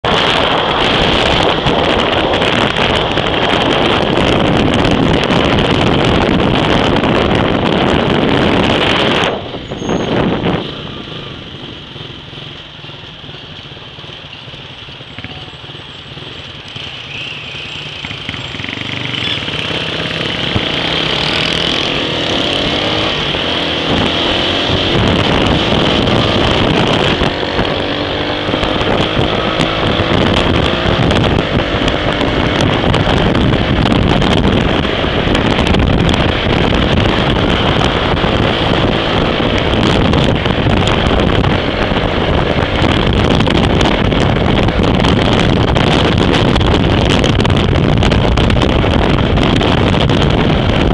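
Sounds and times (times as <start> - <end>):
wind rushing over microphone: 0.0 - 13.9, 14.5 - 50.9
motorcycle engine: 0.0 - 50.9.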